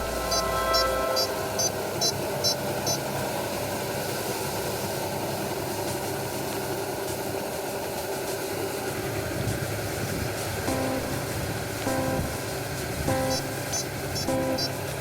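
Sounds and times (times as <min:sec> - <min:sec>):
combine harvester droning: 0:00.0 - 0:05.9, 0:08.6 - 0:15.0.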